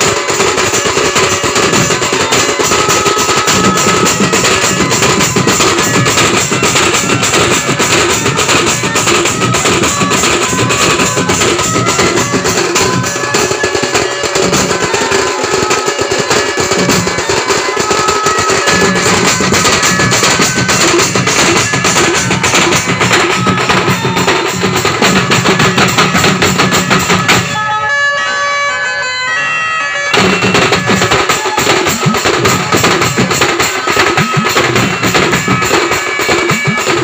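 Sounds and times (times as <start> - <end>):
music with steady drum beat: 0.0 - 27.6, 30.1 - 37.0.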